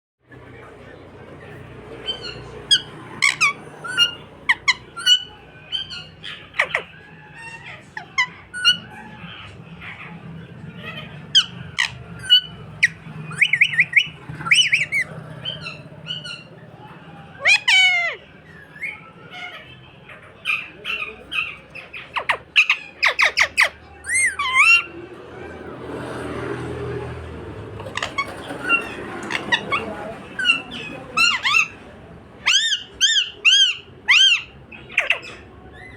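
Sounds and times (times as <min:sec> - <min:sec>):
parrot chirping and squawking: 0:01.3 - 0:25.5, 0:27.5 - 0:35.9.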